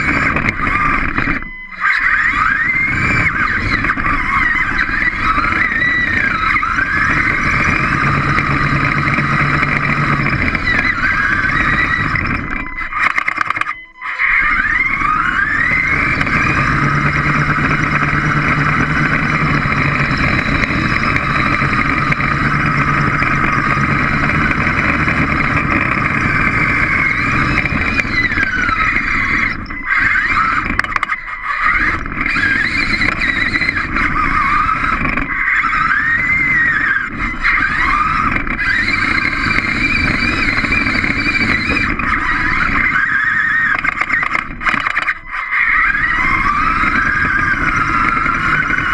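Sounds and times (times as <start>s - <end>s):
robot motors whining: 0.0s - 48.9s.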